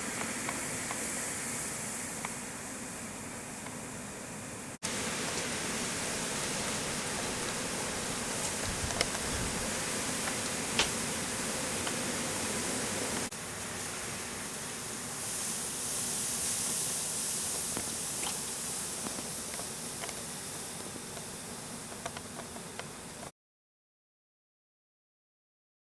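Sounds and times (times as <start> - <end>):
outdoor background hiss: 0.0 - 23.3.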